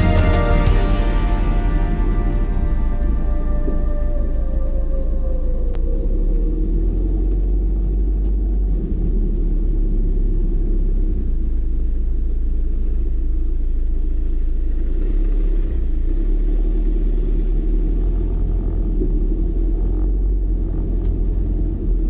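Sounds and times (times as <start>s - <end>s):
car driving rumble: 0.0s - 22.0s.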